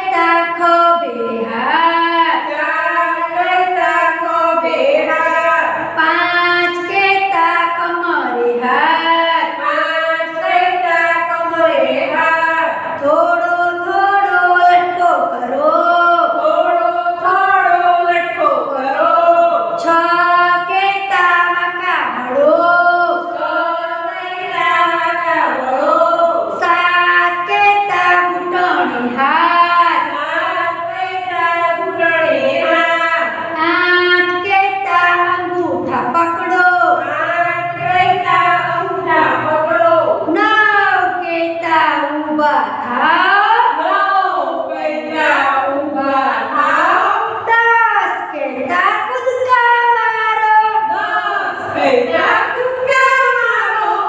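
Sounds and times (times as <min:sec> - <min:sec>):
women singing unaccompanied: 0:00.0 - 0:54.0.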